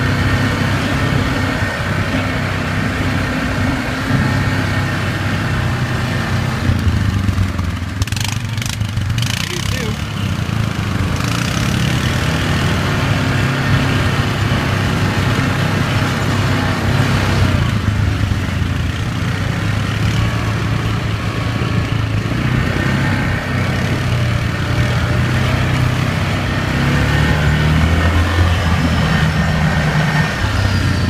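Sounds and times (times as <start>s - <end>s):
atv engines droning: 0.0s - 31.0s.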